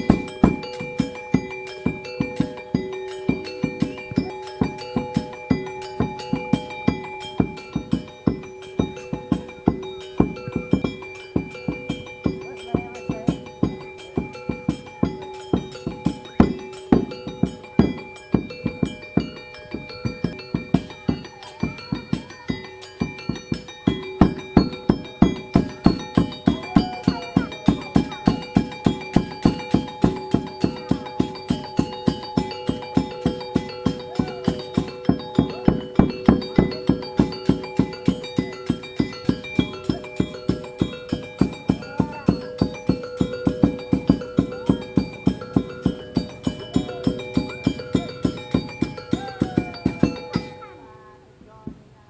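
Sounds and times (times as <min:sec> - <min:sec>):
sharp percussion strokes: 0:00.0 - 0:51.0.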